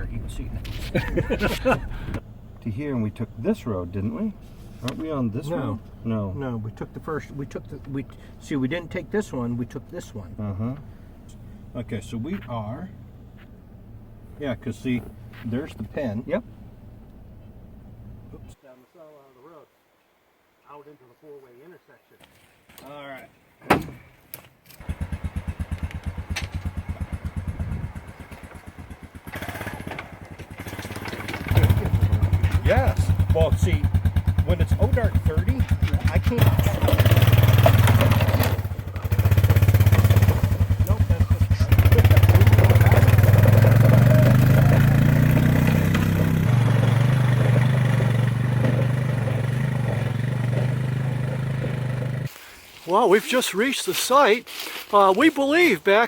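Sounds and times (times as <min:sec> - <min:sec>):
vehicle engine starting and puttering: 0:00.0 - 0:18.6, 0:24.8 - 0:52.3.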